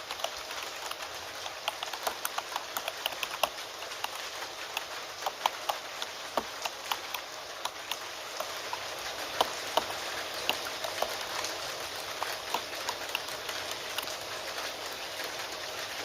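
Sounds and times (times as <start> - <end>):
computer keyboard keystrokes: 0.0 - 14.2
steady rain hiss: 0.0 - 16.0.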